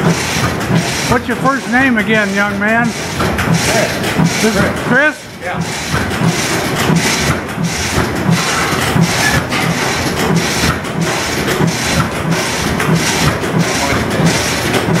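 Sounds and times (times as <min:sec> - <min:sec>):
stationary engine running: 0:00.0 - 0:15.0.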